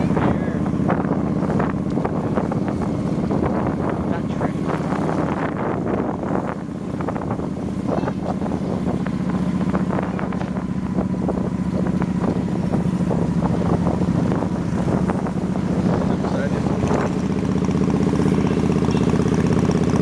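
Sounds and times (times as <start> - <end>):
motorbike engine drone: 0.0 - 20.0
wind buffeting microphone: 0.0 - 20.0.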